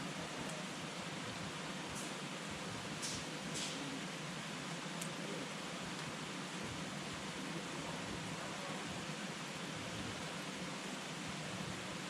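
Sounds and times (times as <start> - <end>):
campfire hissing: 0.0 - 12.0.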